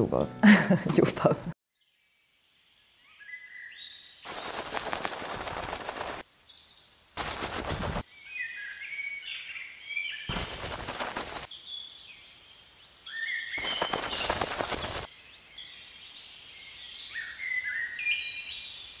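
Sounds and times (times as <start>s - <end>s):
birds chirping: 3.0s - 12.4s, 13.1s - 19.0s.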